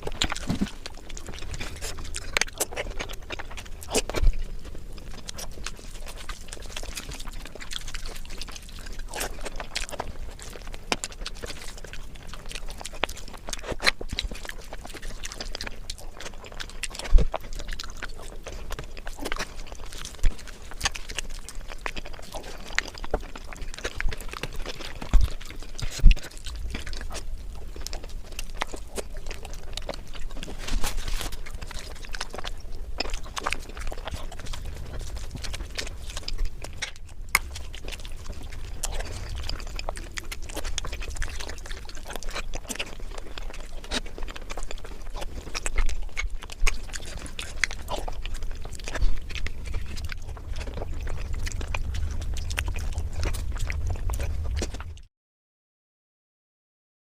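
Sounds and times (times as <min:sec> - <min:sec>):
close chewing with mouth clicks: 0:00.0 - 0:55.1.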